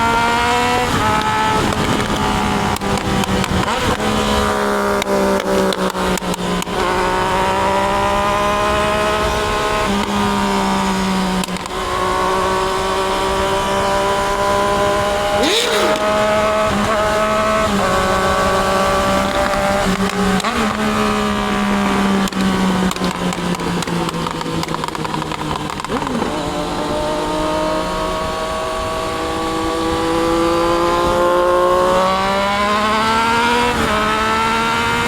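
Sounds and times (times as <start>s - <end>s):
motorcycle engine cruising: 0.0s - 35.0s.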